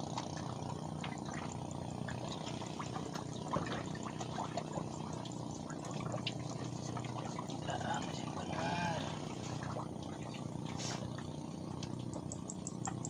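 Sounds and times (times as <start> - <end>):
water splashing and dripping: 0.1 - 13.0.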